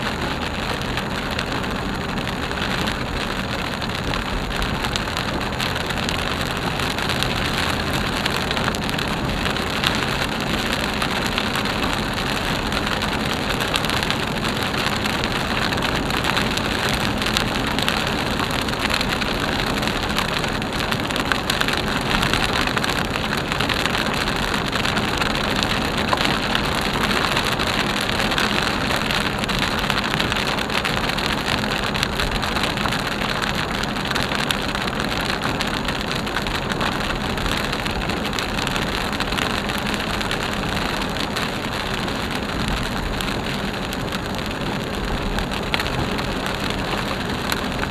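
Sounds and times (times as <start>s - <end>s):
heavy rain on car roof: 0.0s - 47.9s
tyres hissing on wet road: 0.0s - 47.9s.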